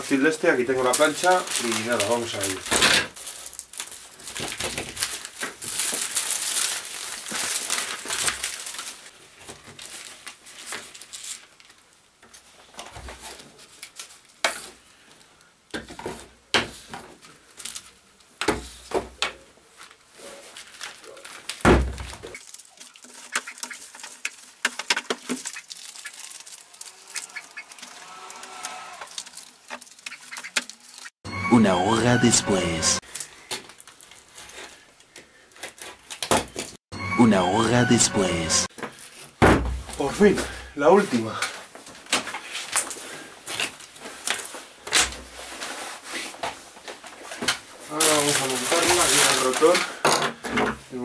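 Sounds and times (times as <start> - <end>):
plastic film rustling: 0.0 - 15.4, 16.8 - 18.9, 19.6 - 31.2, 33.1 - 36.8, 41.0 - 50.0.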